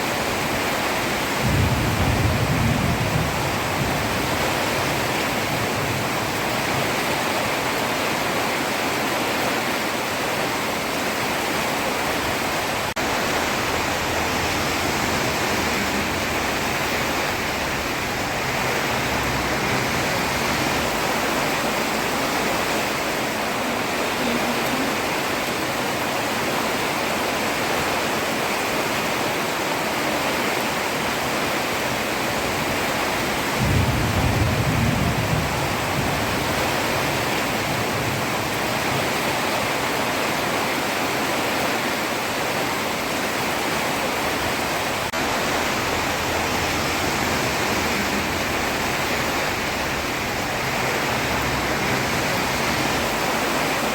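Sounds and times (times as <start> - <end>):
heavy rain on a road: 0.0 - 53.9.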